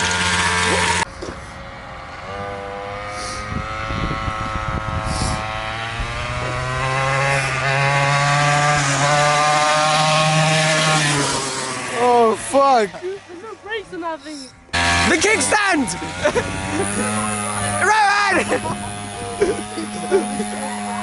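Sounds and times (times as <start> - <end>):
small motorbike engine revving: 0.0 - 21.0.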